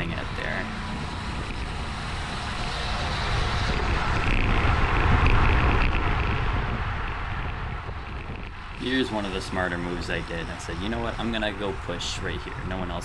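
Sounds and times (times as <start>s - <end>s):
road rumble: 0.0s - 13.0s
wind buffeting microphone: 0.0s - 13.0s.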